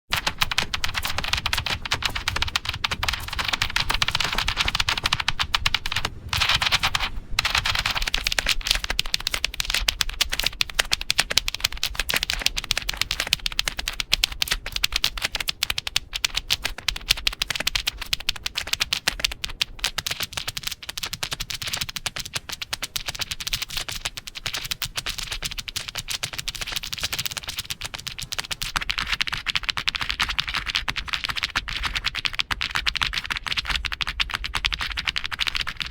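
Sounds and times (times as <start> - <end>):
rapid keyboard typing: 0.1 - 35.9.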